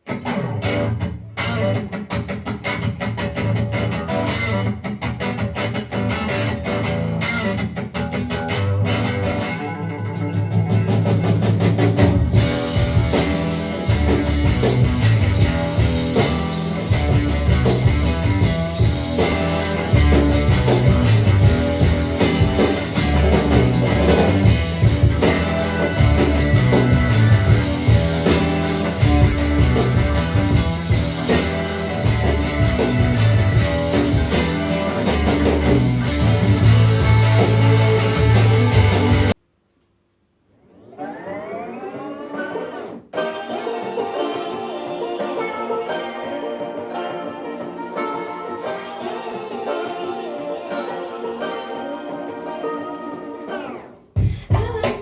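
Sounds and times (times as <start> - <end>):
instrumental rock music: 0.0 - 39.4, 41.0 - 55.0.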